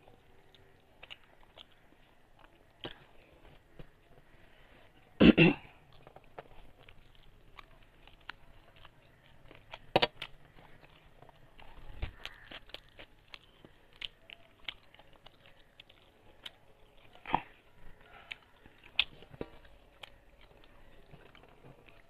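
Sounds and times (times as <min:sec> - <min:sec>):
chewing clicks and smacks: 0:00.0 - 0:04.4, 0:05.0 - 0:22.0.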